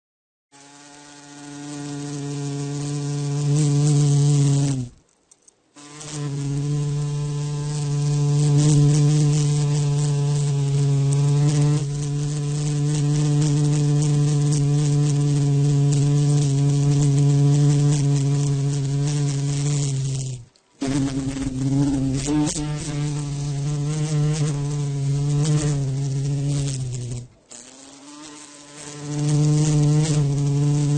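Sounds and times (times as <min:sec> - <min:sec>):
insect wings buzzing: 0:00.6 - 0:30.9.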